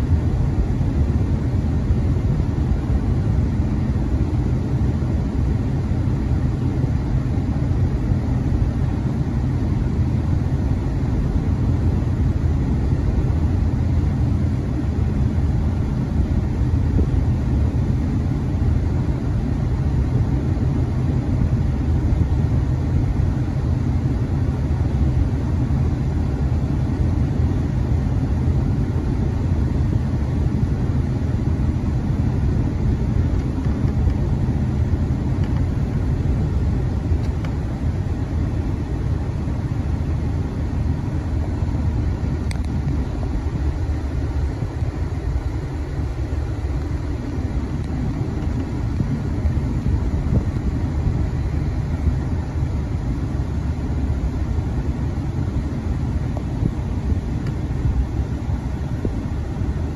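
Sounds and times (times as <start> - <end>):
vehicle interior road rumble: 0.0 - 59.9.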